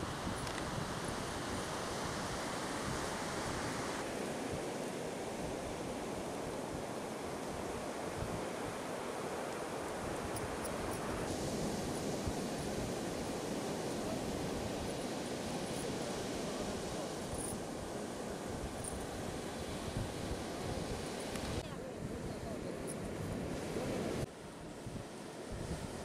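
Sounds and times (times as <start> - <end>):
ocean surf: 0.0 - 21.8
wind: 0.0 - 26.0.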